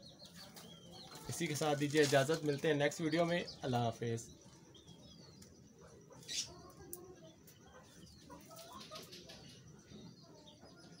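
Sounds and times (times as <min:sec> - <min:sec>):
faint pigeon and fowl calls: 0:00.0 - 0:11.0.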